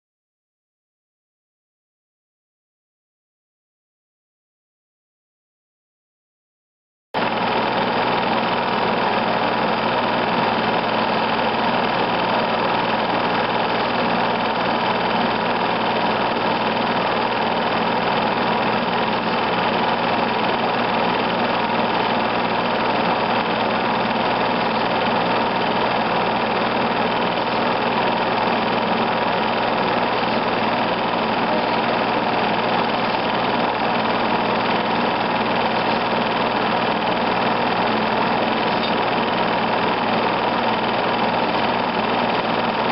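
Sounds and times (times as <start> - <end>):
film projector whirring: 7.2 - 42.9.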